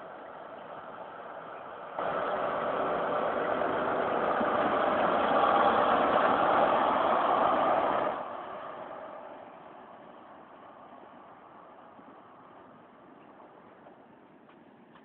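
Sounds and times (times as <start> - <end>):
diesel train engine passing: 0.0 - 15.0.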